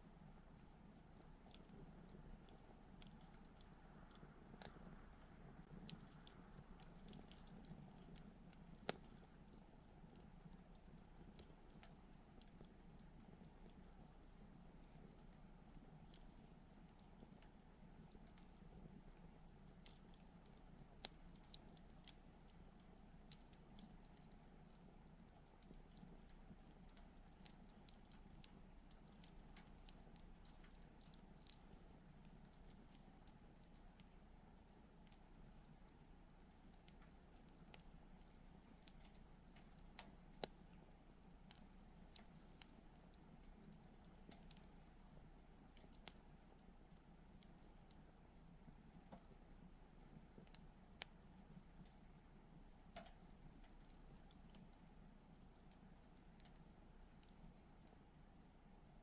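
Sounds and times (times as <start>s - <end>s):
campfire crackling: 0.0s - 59.0s
fire popping: 0.0s - 59.0s.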